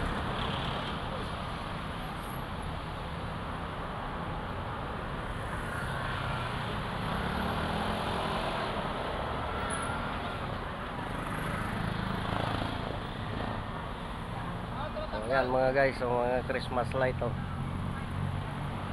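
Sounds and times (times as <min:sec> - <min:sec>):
road traffic rumble: 0:00.0 - 0:18.9.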